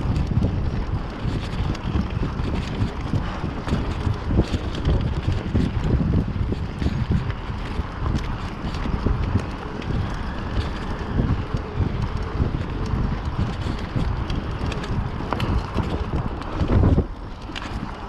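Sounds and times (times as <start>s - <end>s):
bike rattles and knocks: 0.0s - 18.0s
bike tyre rumble on dirt: 0.0s - 18.0s
wind buffeting microphone: 0.0s - 18.0s.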